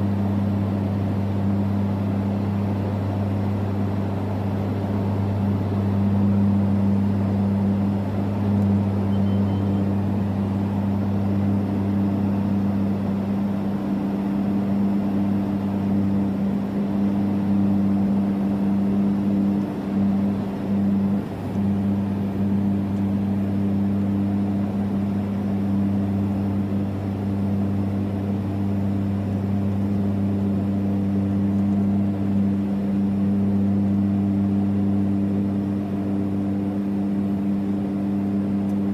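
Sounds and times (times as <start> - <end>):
aircraft engines and propellers droning: 0.0 - 38.9.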